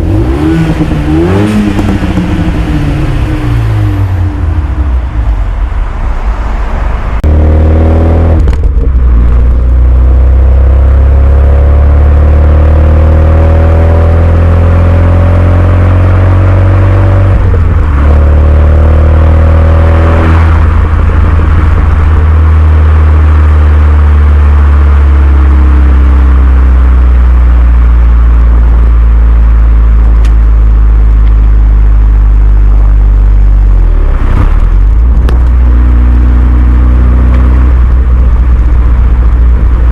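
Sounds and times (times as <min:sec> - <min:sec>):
car engine accelerating through gears: 0:00.0 - 0:05.5, 0:06.2 - 0:39.9.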